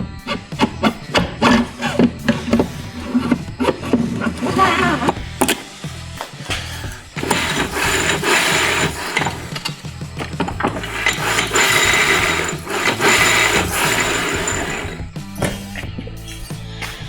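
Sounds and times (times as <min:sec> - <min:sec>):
metal scraping and rattling: 0:00.0 - 0:15.1.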